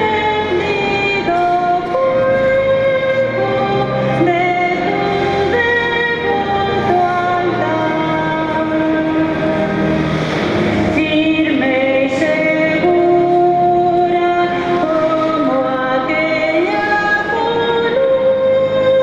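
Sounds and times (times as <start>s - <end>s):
slow melody of long notes: 0.0s - 19.0s.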